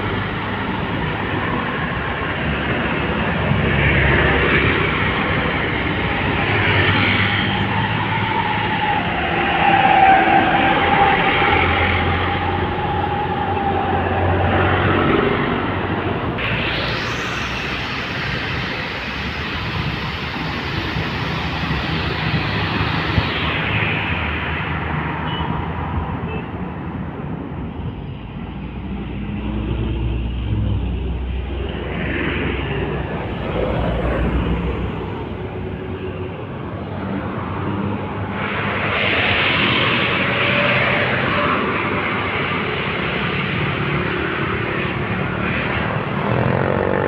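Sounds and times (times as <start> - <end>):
heavy trucks passing: 0.0 - 47.0.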